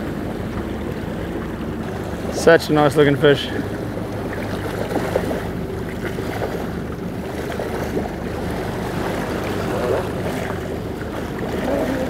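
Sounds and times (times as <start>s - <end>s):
boat engine running: 0.0s - 12.0s
water rushing and splashing: 0.0s - 12.0s.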